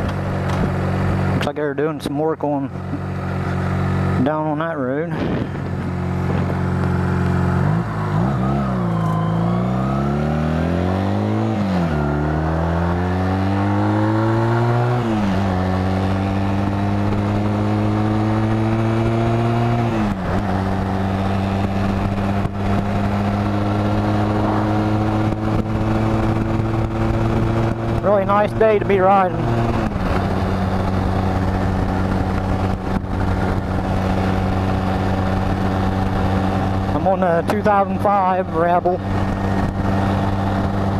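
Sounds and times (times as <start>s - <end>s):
motorcycle engine accelerating: 0.0s - 1.9s, 2.6s - 40.9s.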